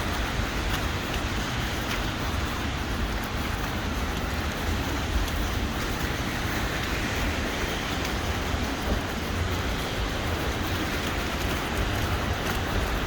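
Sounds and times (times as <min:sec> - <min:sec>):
traffic noise rumbling: 0:00.0 - 0:13.0.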